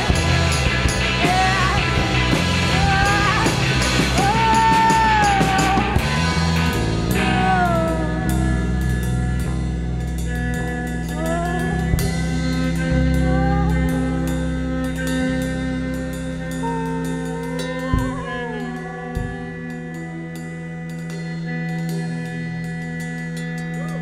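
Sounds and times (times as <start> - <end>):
bass line: 0.0 - 24.0
drums: 0.0 - 24.0
live rock band playing: 0.0 - 24.0
sliding lead melody: 0.0 - 24.0.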